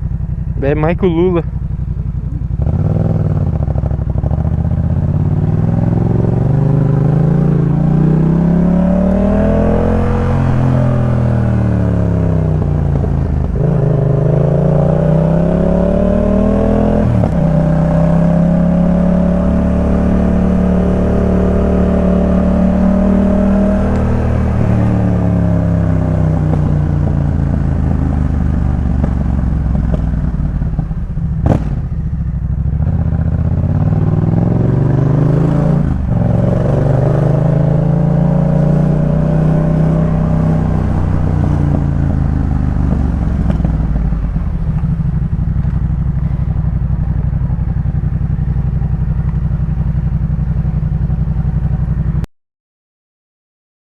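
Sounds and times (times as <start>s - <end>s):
motorcycle engine revving: 0.0s - 52.3s.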